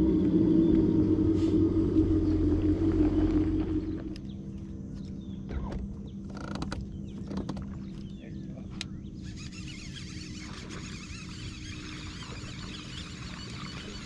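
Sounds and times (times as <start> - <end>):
trolling motor humming: 0.0 - 14.0
birds chirping: 2.0 - 14.0.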